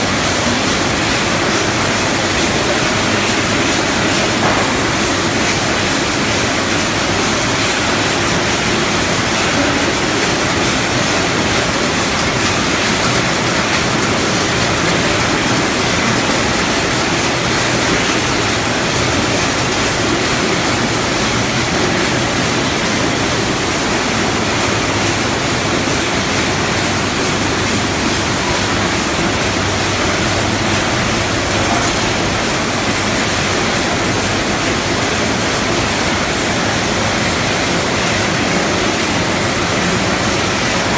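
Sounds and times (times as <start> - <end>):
processing line machinery running: 0.0 - 40.9.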